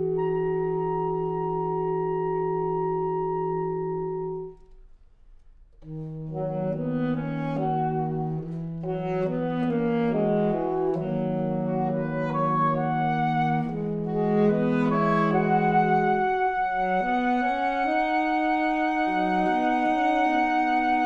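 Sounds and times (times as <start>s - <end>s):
saxophone quartet playing: 0.0s - 4.8s, 5.7s - 21.0s.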